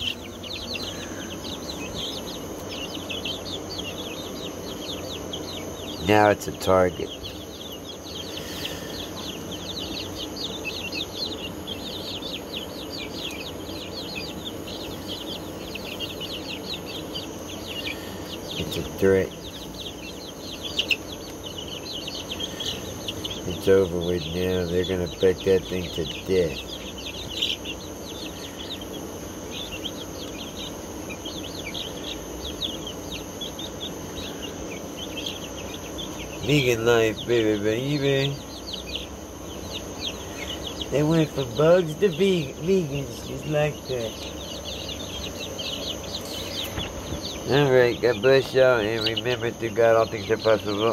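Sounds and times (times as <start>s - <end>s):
chicks peeping: 0.0s - 50.9s
steady low hum: 0.0s - 50.9s.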